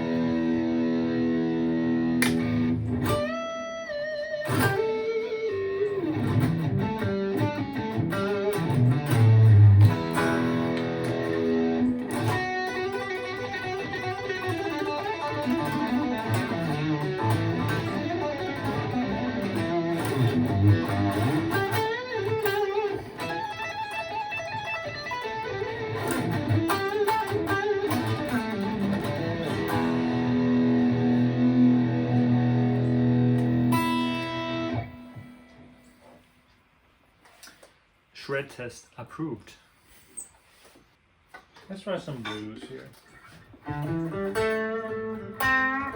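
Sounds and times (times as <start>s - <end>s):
electric guitar shred lead: 0.0s - 35.8s, 43.6s - 45.9s.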